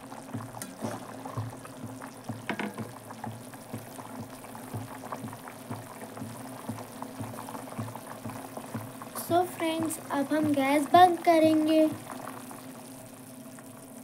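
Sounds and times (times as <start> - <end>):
gravy boiling and popping: 0.0 - 14.0.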